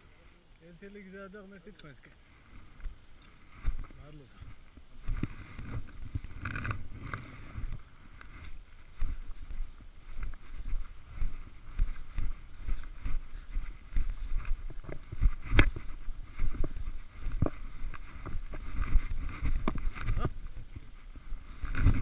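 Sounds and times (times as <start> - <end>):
wind buffeting microphone: 2.7 - 22.0.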